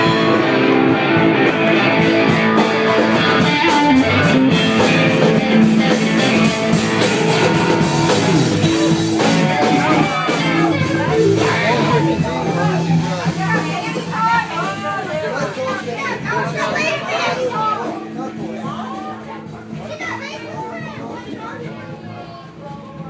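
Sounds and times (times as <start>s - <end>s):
rock music with electric guitar: 0.0s - 20.2s.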